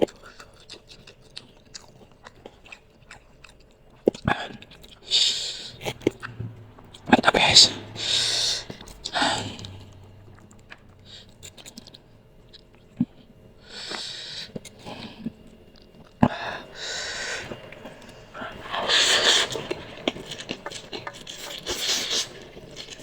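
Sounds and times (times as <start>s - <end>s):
chewing: 0.0s - 23.0s
slurping noodles: 1.8s - 12.2s, 12.8s - 23.0s.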